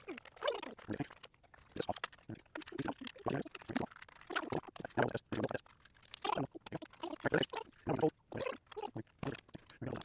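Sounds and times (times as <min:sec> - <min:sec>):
plastic toy parts clattering: 0:00.0 - 0:10.0.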